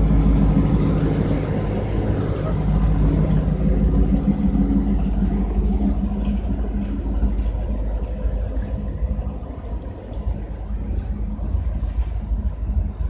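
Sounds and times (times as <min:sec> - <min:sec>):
train engine hum: 0:00.0 - 0:13.0
train rumble: 0:00.0 - 0:13.0.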